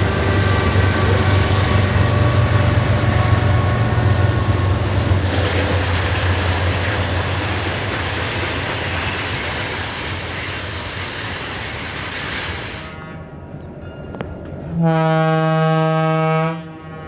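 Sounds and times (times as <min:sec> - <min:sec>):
steel wheels rushing on rail: 0:00.0 - 0:14.8
diesel locomotive drone: 0:00.0 - 0:17.0.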